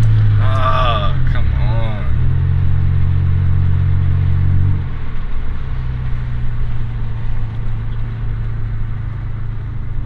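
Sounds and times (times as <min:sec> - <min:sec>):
car engine droning from inside: 0:00.0 - 0:10.0.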